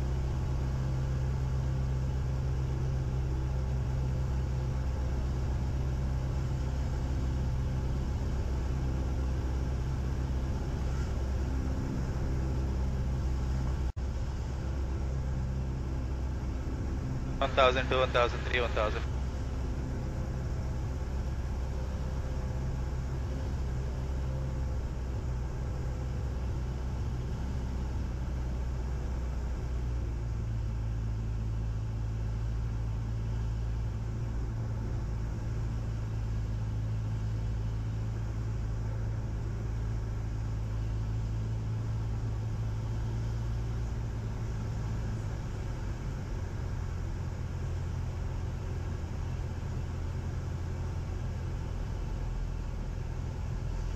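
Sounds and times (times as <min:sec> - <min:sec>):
aircraft engine and propeller droning: 0:00.0 - 0:53.9.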